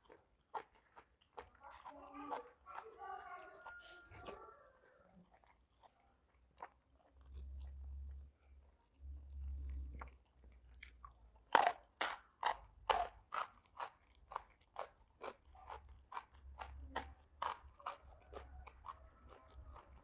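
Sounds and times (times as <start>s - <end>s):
crunchy chewing: 0.0s - 20.0s.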